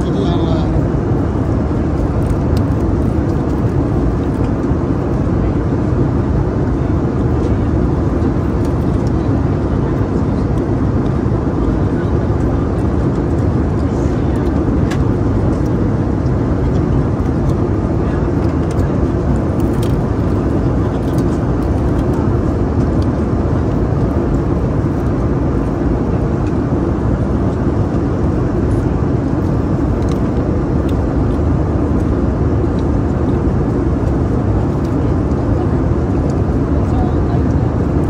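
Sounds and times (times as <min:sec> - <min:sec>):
airliner cabin noise: 0:00.0 - 0:38.0.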